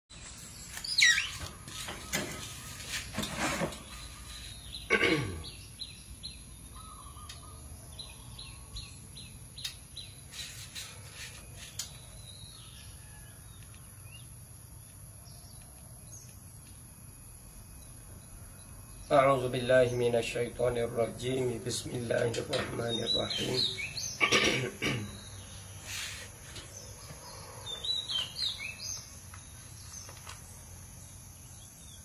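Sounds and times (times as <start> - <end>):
birds calling: 0.1 - 16.8, 17.7 - 32.0
faint insect drone: 4.5 - 32.0.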